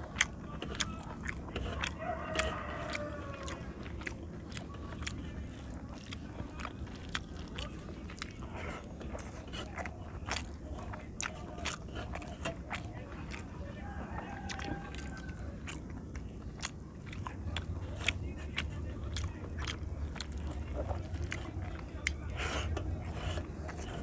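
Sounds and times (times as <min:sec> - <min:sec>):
chewing with wet smacks: 0:00.0 - 0:24.0
fingers squishing rice: 0:00.0 - 0:24.0.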